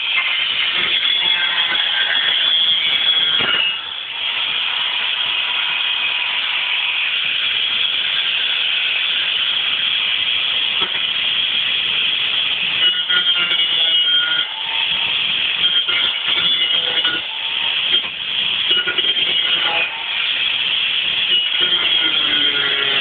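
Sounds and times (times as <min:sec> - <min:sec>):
angle grinder cutting sheet metal: 0:00.0 - 0:23.0.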